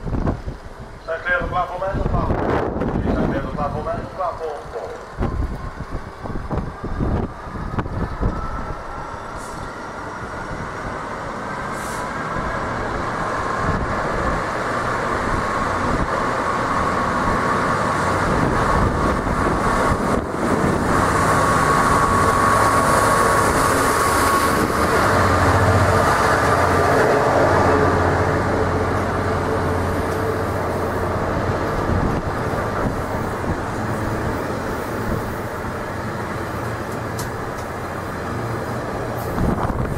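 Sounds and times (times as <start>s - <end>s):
train passing: 0.0s - 39.9s
wind buffeting microphone: 0.0s - 39.9s.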